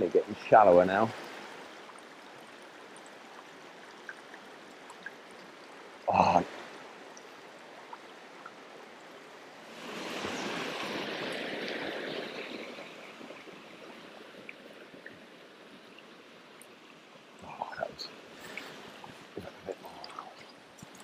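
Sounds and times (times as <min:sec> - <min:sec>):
river running over stones: 0:00.0 - 0:21.0
rush of water: 0:00.0 - 0:21.0.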